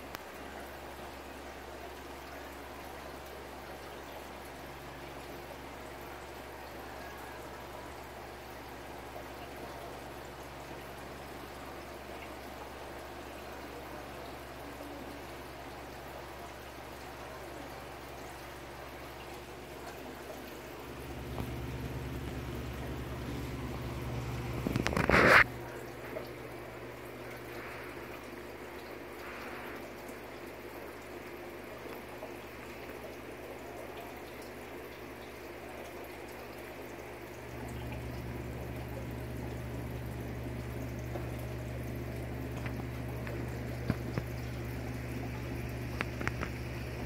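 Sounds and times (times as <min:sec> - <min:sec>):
pump and filter humming: 0:00.0 - 0:47.0
water trickling: 0:00.0 - 0:47.0.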